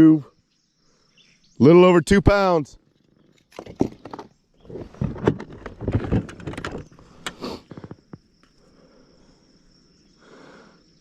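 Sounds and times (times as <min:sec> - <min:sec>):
cricket trill: 0:00.0 - 0:11.0.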